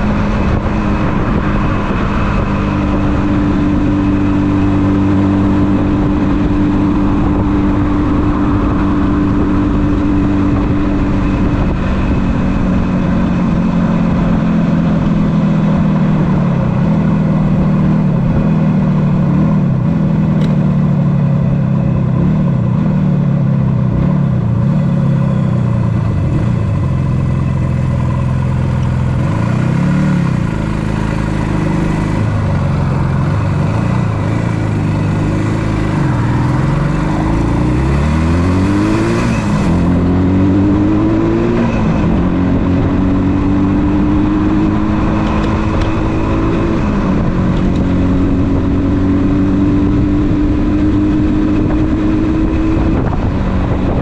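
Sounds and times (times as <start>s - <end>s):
two-stroke motorcycle engine: 0.0s - 54.0s.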